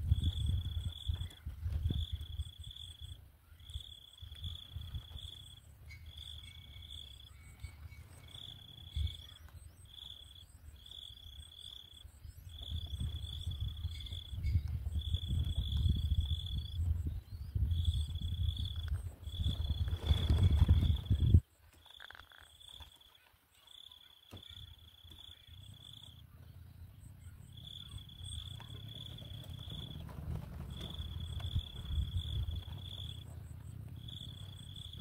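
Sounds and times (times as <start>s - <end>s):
insect trilling: 0.1s - 16.8s, 17.7s - 26.2s, 27.1s - 30.0s, 30.7s - 35.0s.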